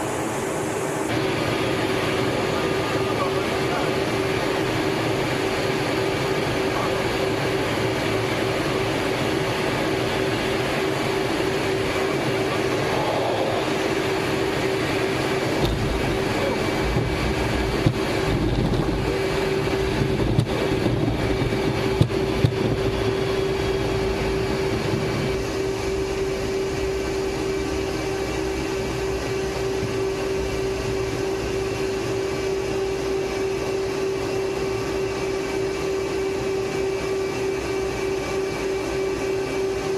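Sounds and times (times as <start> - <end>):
deep rumble of landing jet: 0.0 - 39.9
jet engine and cockpit air noise: 0.0 - 39.9.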